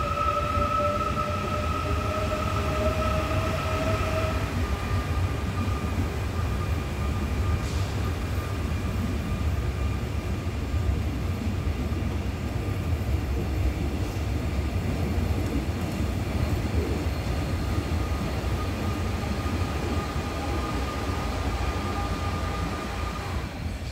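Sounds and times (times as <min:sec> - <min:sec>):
train cars rumbling: 0:00.0 - 0:23.9.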